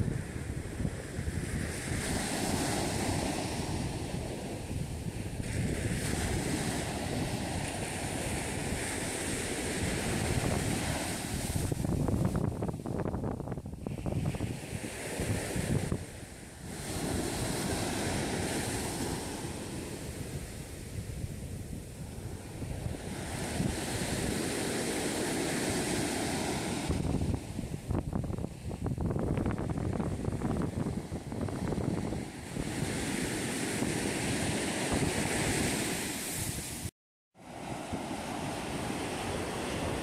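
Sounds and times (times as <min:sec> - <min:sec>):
surf breaking on beach: 0:00.0 - 0:13.0, 0:13.8 - 0:40.0
wind rumbling on microphone: 0:00.0 - 0:40.0.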